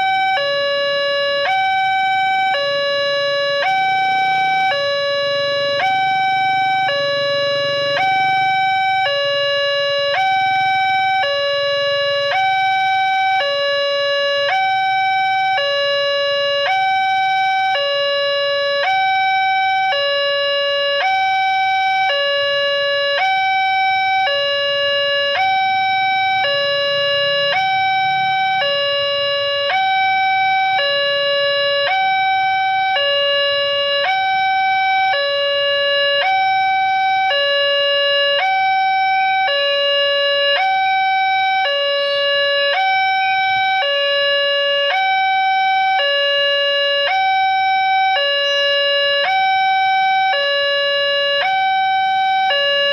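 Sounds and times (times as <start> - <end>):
level crossing two-tone alarm: 0.0 - 52.9.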